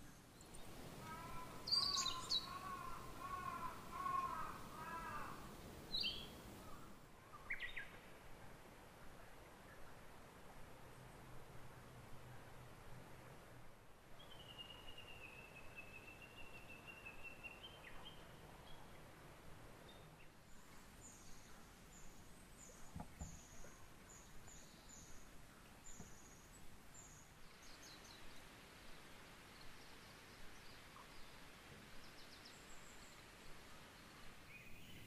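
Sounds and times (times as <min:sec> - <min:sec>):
outdoor hiss: 0:00.0 - 0:09.5, 0:12.8 - 0:35.0.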